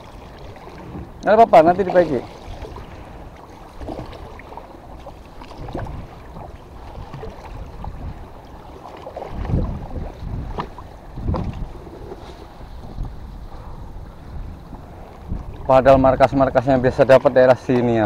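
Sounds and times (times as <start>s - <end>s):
water washing along boat hull: 0.0s - 18.0s
wind buffeting microphone: 0.0s - 18.0s.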